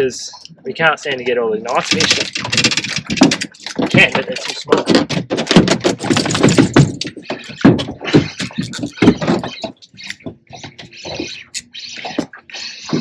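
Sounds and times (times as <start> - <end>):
knocks and clattering thumps: 0.5 - 13.0.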